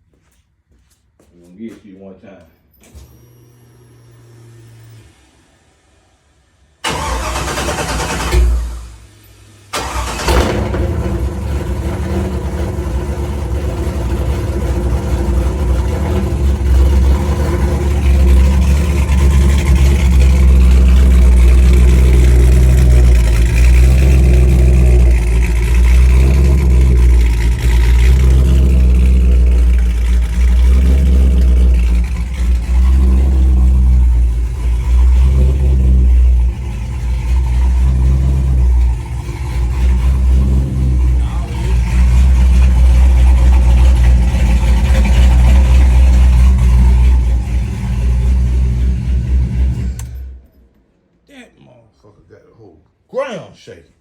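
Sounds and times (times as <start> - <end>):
car engine cold starting: 2.8 - 50.7
deep exhaust rumble: 3.5 - 50.4.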